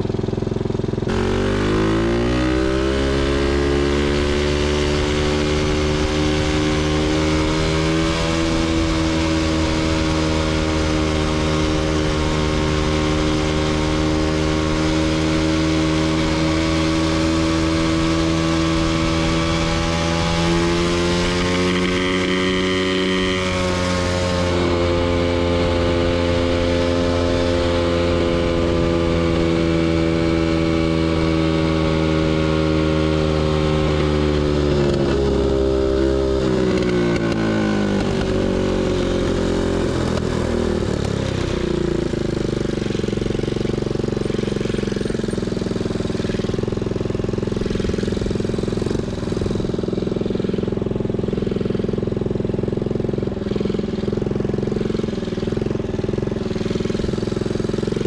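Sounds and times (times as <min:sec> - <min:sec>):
small two-stroke engine running: 0:00.0 - 0:58.0.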